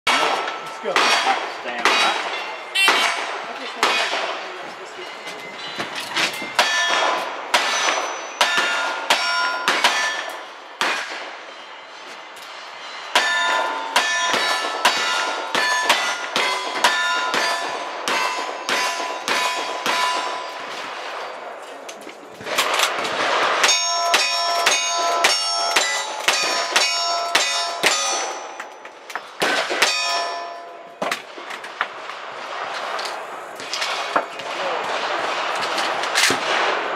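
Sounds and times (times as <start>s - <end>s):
steel targets ringing: 0.1s - 21.6s, 23.3s - 31.5s.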